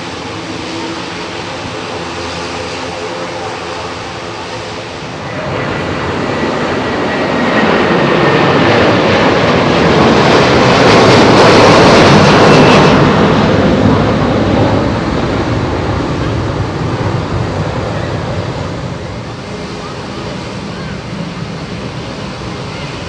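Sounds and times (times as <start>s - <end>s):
turboprop plane passing: 0.0s - 23.0s.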